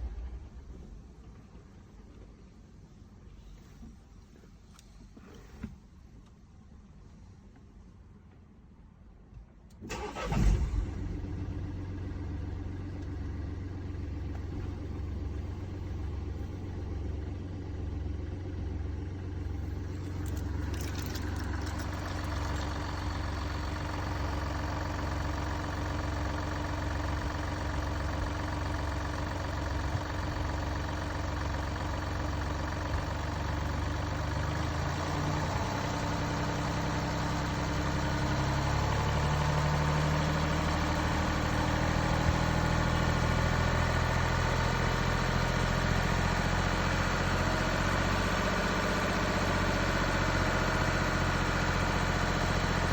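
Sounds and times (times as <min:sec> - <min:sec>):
diesel car engine starting and idling: 0:00.0 - 0:02.2, 0:09.7 - 0:52.9.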